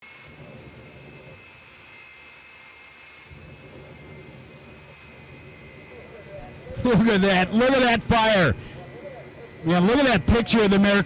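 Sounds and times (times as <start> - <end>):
turbine engine whine: 0.0 - 11.0.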